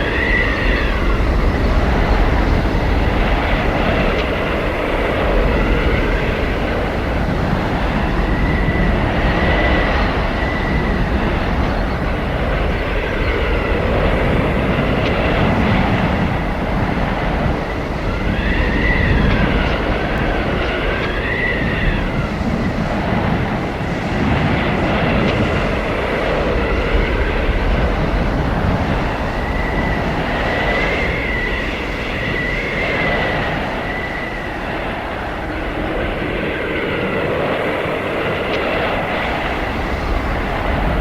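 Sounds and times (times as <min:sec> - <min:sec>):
wind roaring and howling: 0:00.0 - 0:41.0.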